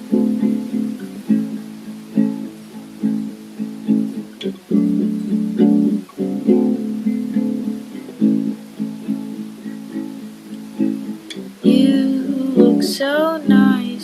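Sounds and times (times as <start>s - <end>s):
guitar plucked in steady rhythm: 0.0s - 14.0s.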